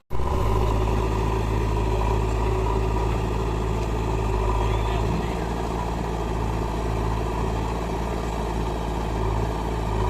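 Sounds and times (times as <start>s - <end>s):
diesel engine running: 0.1s - 10.0s.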